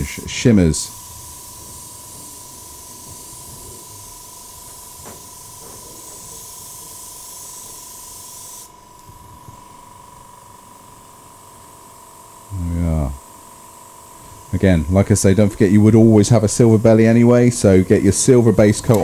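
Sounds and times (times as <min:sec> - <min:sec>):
airbrush spraying hiss: 0:00.0 - 0:19.0.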